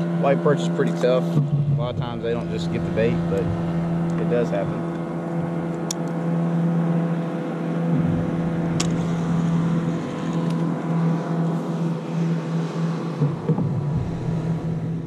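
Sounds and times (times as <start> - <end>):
boat motor drone: 0.0 - 15.0.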